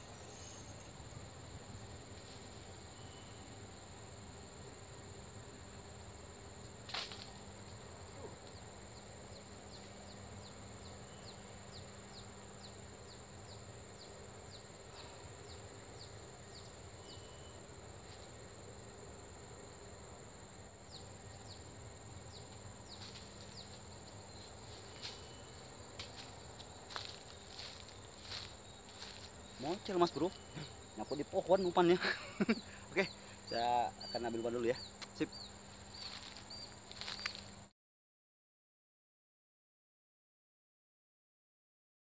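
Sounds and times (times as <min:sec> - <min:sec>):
high-pitched insect drone: 0:00.0 - 0:37.6.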